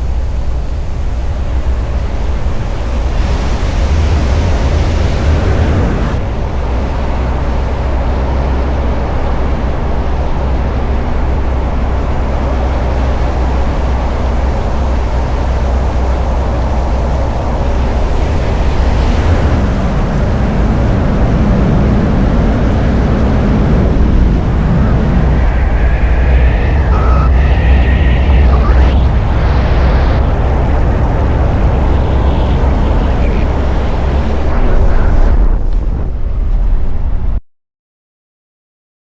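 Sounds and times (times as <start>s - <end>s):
engine and road rumble: 0.0s - 36.7s
wind noise: 0.0s - 37.4s.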